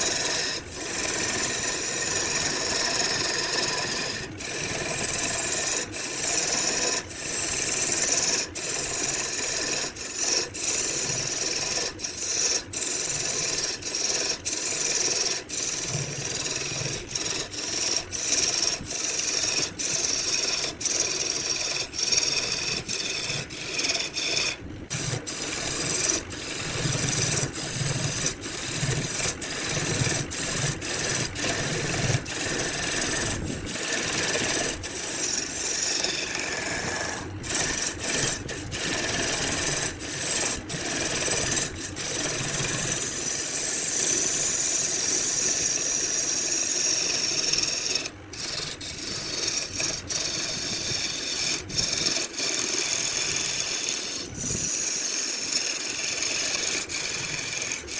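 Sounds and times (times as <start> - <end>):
wood rasping on a lathe: 0.0 - 57.9.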